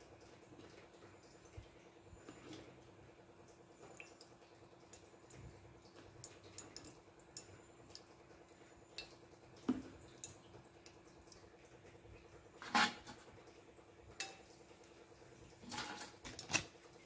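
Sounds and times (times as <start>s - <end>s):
ticks and crackles of melting ghee: 0.0s - 17.0s.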